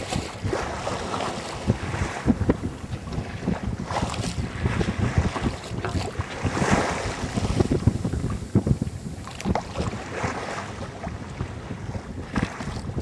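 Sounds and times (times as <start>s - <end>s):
waves washing against hull: 0.0s - 13.0s
wind buffeting microphone: 0.0s - 13.0s.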